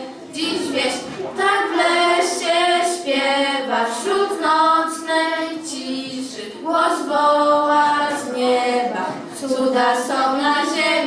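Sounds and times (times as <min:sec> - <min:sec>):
girls singing a carol: 0:00.0 - 0:11.0.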